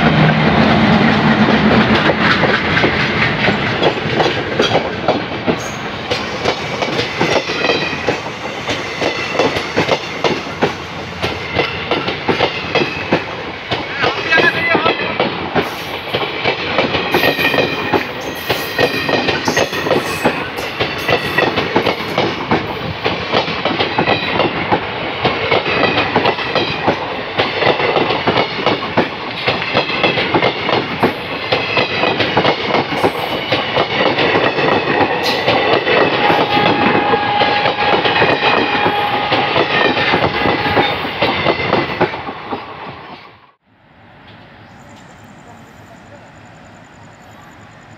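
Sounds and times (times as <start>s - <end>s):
train wheels clattering on rails: 0.0s - 43.3s.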